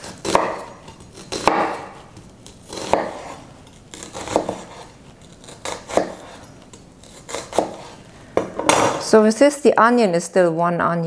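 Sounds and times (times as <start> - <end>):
knife slicing onion on cutting board: 0.0 - 9.0.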